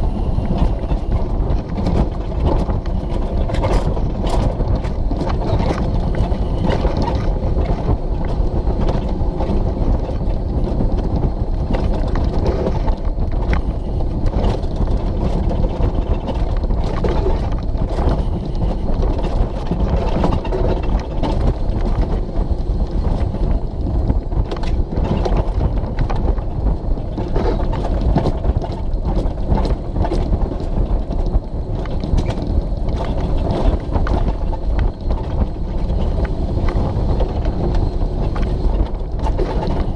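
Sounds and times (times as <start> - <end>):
sled wheels rumbling on track: 0.0 - 39.9
wind on microphone: 0.0 - 39.9.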